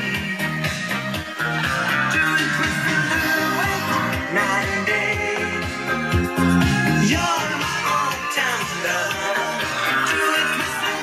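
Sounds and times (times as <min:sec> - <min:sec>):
pop song over loudspeakers: 0:00.0 - 0:11.0.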